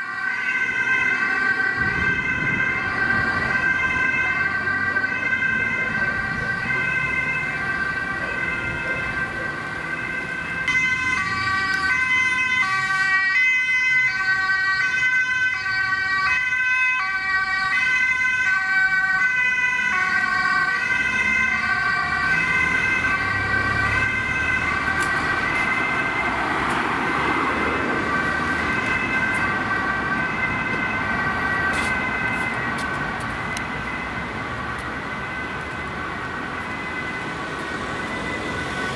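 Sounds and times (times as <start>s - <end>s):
ambulance two-tone siren: 0.0s - 38.9s.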